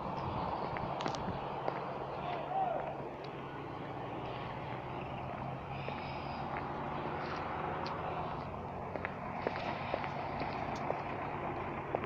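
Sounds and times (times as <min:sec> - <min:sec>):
outdoor street noise: 0:00.0 - 0:12.0
vehicle engine humming: 0:00.0 - 0:12.0.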